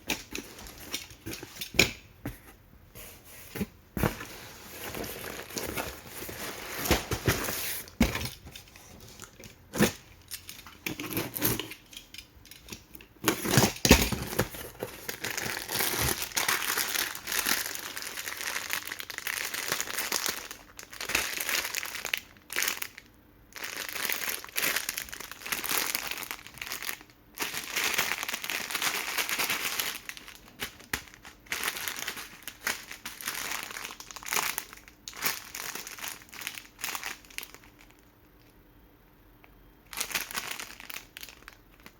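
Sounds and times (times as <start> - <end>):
plastic packaging crinkling: 3.6 - 38.1, 39.9 - 41.9.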